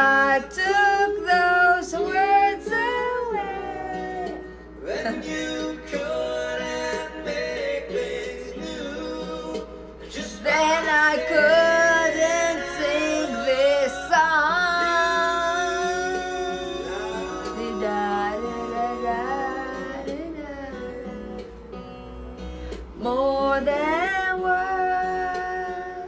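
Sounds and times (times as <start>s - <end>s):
woman singing: 0.0s - 6.2s, 9.5s - 21.6s, 23.0s - 26.0s
acoustic guitar: 0.0s - 26.0s.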